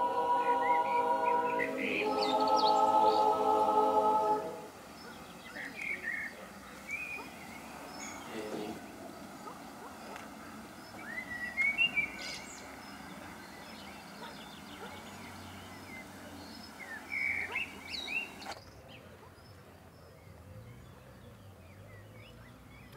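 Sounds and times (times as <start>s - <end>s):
small birds chirping and trilling: 0.0s - 3.4s, 4.8s - 22.9s
steady background hiss: 0.0s - 18.6s.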